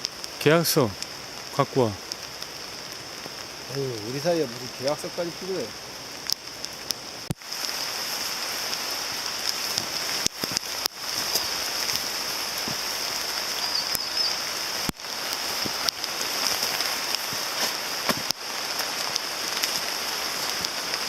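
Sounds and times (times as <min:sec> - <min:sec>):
heavy rain falling: 0:00.0 - 0:21.0
raindrop ticks: 0:00.0 - 0:21.0.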